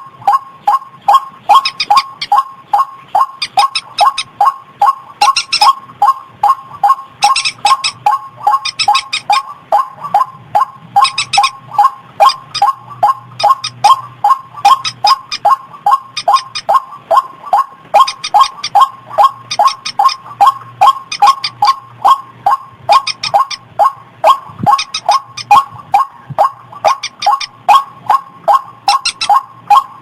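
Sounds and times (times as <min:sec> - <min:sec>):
waterhen call: 0:00.0 - 0:30.0.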